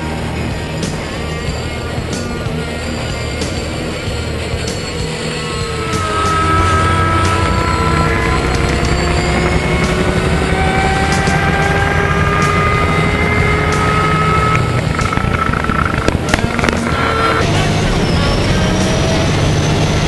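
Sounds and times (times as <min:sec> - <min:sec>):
high turbo whine: 0:00.0 - 0:20.0
truck engine rumbling: 0:00.0 - 0:20.0.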